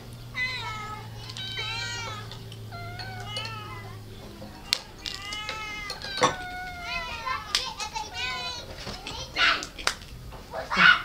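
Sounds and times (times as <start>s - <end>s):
cat meowing: 0.0s - 9.7s
low hum: 0.0s - 10.6s.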